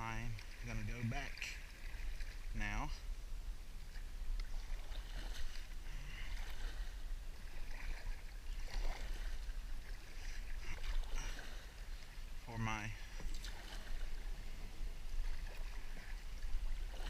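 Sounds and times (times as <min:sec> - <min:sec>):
paddle strokes splashing water: 0:00.0 - 0:03.1, 0:03.7 - 0:17.0.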